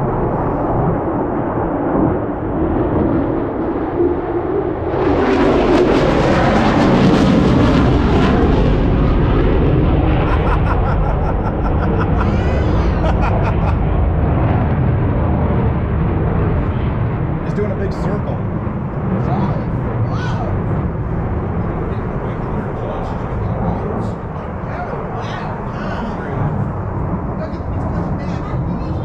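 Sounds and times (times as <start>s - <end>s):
airplane engine rush: 0.0s - 29.0s
low rumble: 0.0s - 29.0s.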